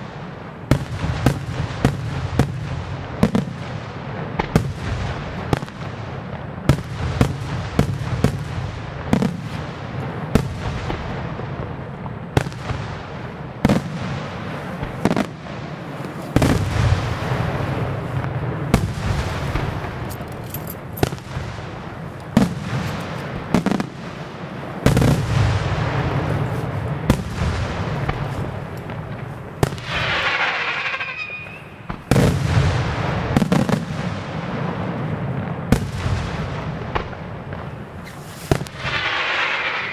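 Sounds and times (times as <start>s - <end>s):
fireworks bursting with sharp bangs: 0.0s - 39.9s
wavering whistling fireworks: 0.0s - 39.9s.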